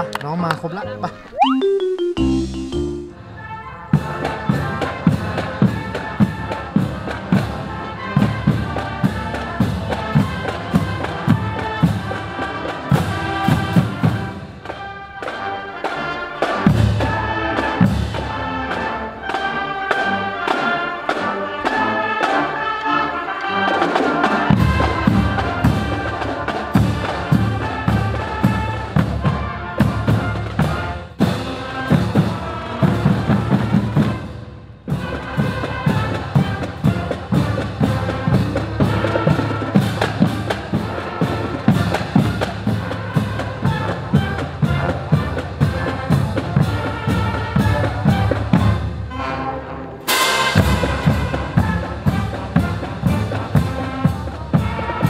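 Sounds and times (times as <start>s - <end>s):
brass melody: 1.3s - 55.0s.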